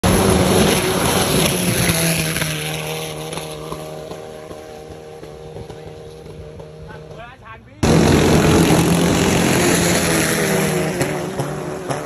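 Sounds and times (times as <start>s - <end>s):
boat engine running flat out: 0.0s - 7.1s, 7.8s - 12.0s.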